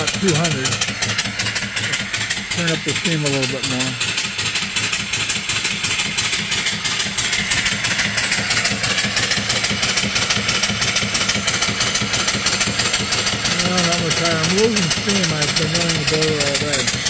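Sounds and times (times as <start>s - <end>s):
steam engine exhaust chuffing: 0.0s - 17.0s.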